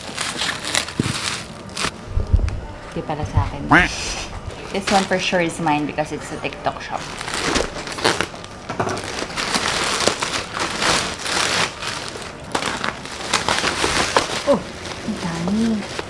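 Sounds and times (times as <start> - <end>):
plastic wrapping crinkling: 0.0 - 5.4, 6.8 - 16.0.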